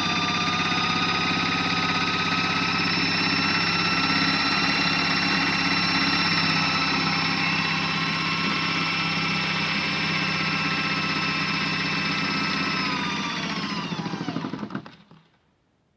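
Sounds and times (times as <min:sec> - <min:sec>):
small electric motor whining: 0:00.0 - 0:14.8.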